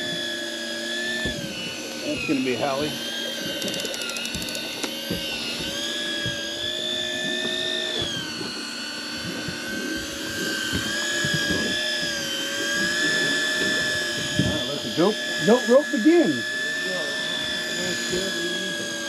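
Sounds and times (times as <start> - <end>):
fishing reel motor whining: 0.0 - 19.0.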